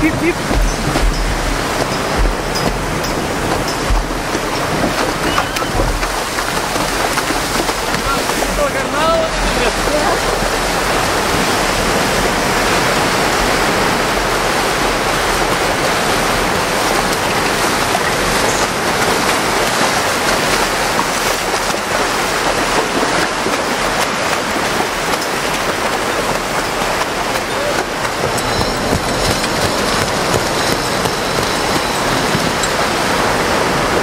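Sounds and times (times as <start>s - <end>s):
surf rushing and splashing: 0.0s - 34.0s
wind rumble on microphone: 0.0s - 34.0s.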